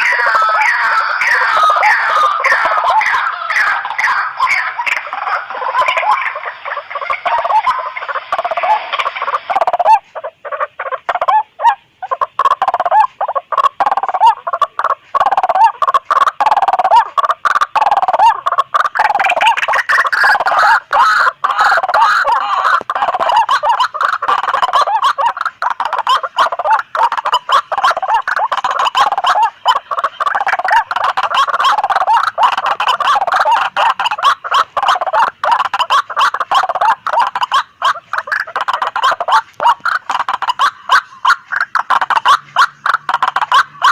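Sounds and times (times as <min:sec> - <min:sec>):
waterhens calling: 0:00.0 - 0:43.9.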